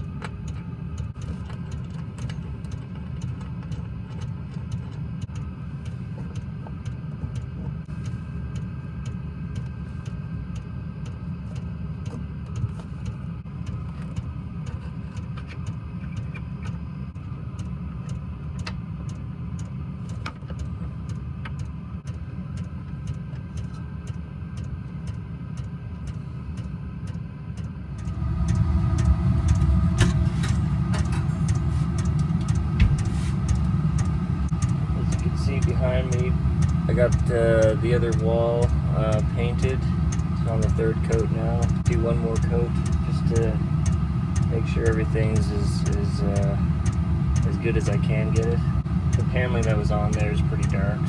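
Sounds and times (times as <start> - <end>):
low rumble: 0.0 - 51.0.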